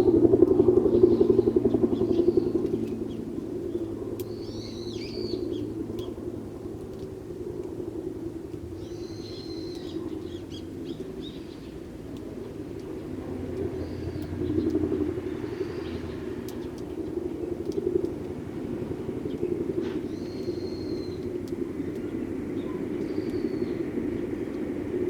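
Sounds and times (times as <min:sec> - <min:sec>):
sparrows chirping: 0:00.0 - 0:06.2, 0:08.8 - 0:18.2, 0:18.9 - 0:24.6
distant traffic rumble: 0:00.0 - 0:25.0.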